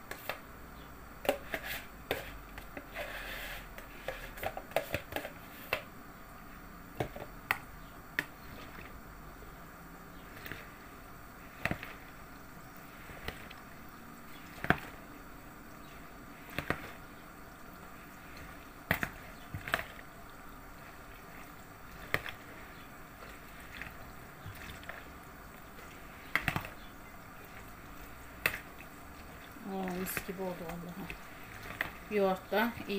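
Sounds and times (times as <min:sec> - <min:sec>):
soft wet mixing: 0:00.0 - 0:32.9.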